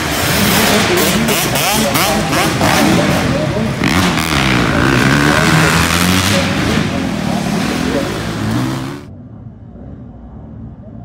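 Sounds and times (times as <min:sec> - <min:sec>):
dirt bike engines revving: 0:00.0 - 0:09.1
low background noise: 0:00.0 - 0:11.0.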